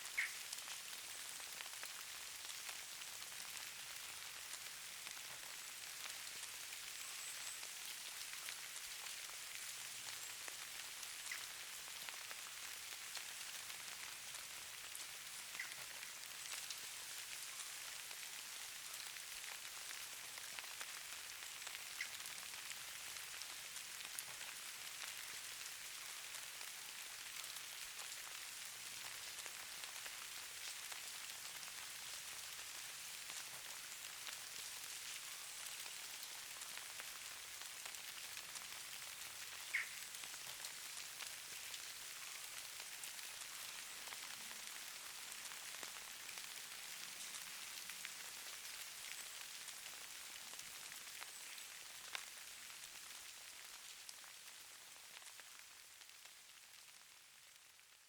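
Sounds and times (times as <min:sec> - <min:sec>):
snow and ice grains pattering: 0:00.1 - 0:57.8.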